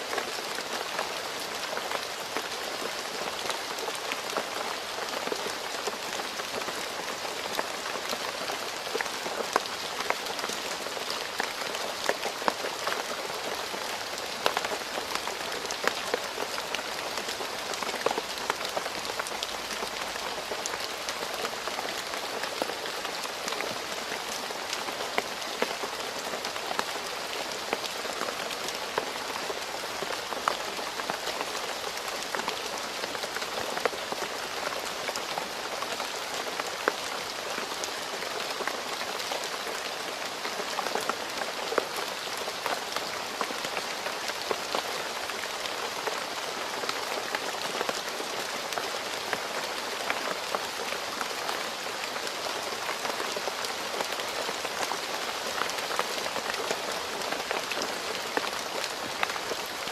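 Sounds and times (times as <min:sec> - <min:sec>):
rain on a paved road: 0:00.0 - 0:59.9.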